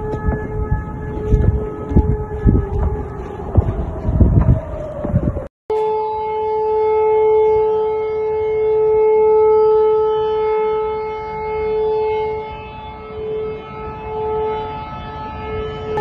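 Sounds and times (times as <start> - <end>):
civil defense siren steady tone: 0.0 - 16.0.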